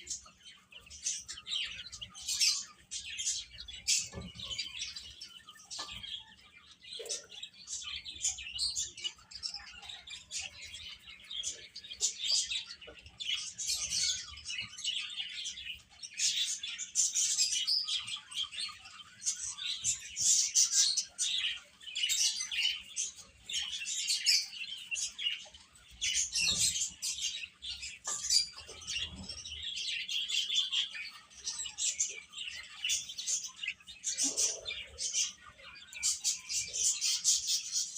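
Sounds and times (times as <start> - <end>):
baby chicks peeping: 0.0 - 37.9.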